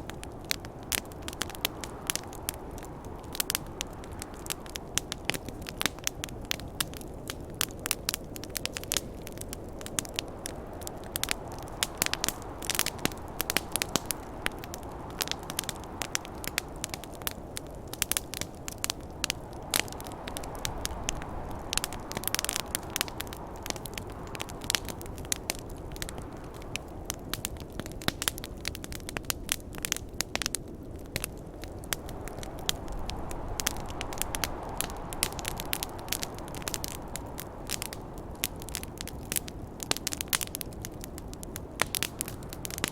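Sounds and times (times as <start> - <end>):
low rush of burning: 0.0 - 42.9
wood fire crackling and popping: 0.0 - 42.9.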